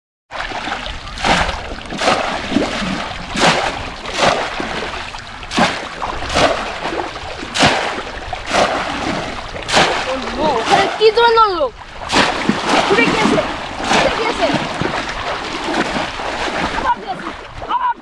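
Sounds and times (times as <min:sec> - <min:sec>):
legs sloshing through water: 0:00.3 - 0:18.0
traps splashing into water: 0:00.3 - 0:18.0.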